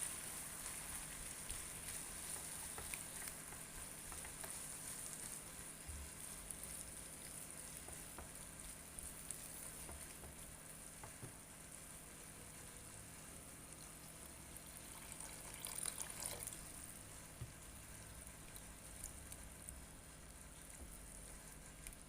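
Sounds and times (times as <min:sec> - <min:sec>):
food sizzling in a frying pan: 0:00.0 - 0:21.8.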